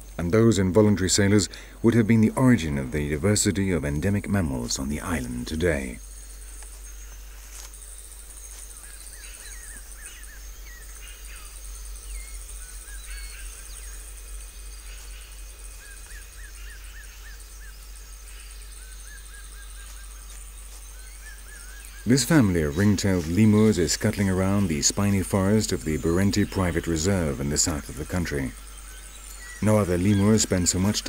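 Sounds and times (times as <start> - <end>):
bird chirping calls: 0.0 - 31.0
steady high hiss: 0.0 - 31.0.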